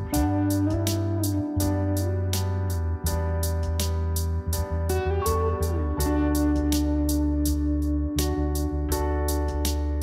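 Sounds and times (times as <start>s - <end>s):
guitar background music: 0.0s - 10.0s
steady low bass: 0.0s - 10.0s.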